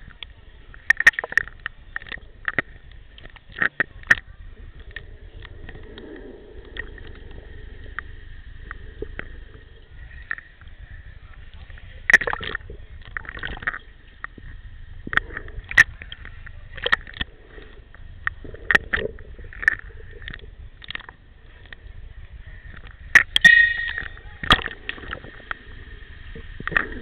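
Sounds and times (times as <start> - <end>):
low underwater rumble: 0.0 - 27.0.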